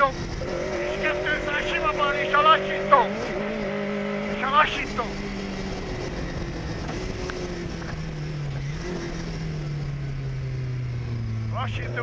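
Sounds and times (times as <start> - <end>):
rally car engine running hard: 0.0 - 12.0
tyre and road noise: 0.0 - 12.0.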